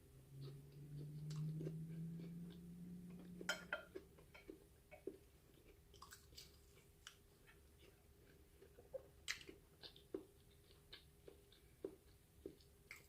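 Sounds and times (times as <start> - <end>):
low steady hum: 0.0 - 13.0
close chewing and mouth sounds: 0.2 - 13.0.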